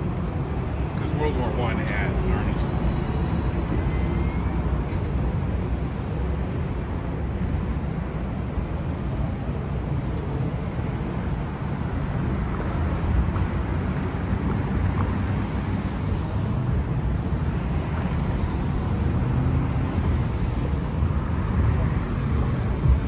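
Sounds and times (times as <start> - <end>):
cars passing: 0.0 - 23.0.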